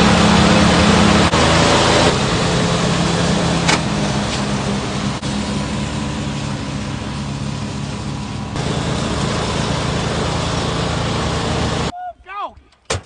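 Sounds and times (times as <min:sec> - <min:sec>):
utility vehicle engine running: 0:00.0 - 0:11.9.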